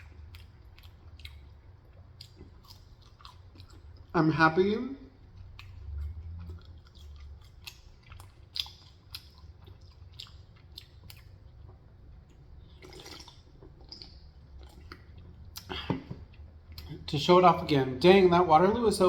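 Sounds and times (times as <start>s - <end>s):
person chewing food: 0.0s - 4.1s, 5.1s - 17.1s.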